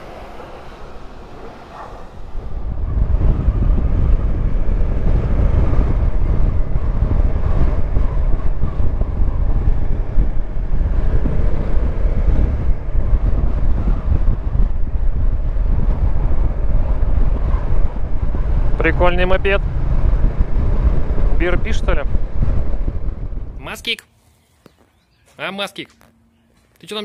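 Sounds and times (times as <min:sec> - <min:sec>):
wind buffeting microphone: 0:00.0 - 0:24.0
motorcycle engine running: 0:01.4 - 0:23.6.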